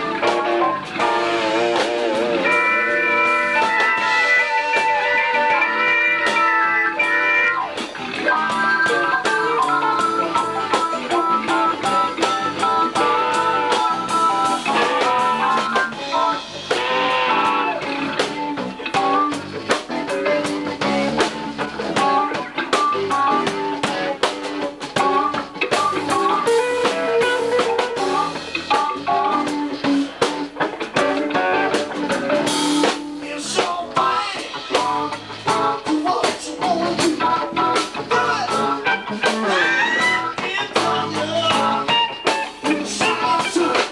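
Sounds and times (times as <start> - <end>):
live blues-rock band playing: 0.0 - 43.9.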